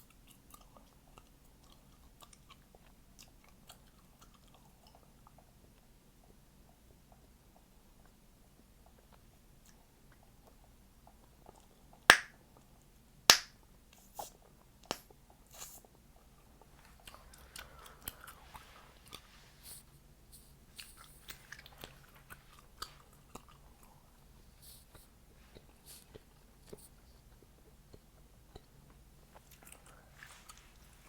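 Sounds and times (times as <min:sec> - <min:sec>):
wet chewing and smacking: 0:00.0 - 0:12.8, 0:14.3 - 0:19.3, 0:20.7 - 0:24.2, 0:24.8 - 0:31.0.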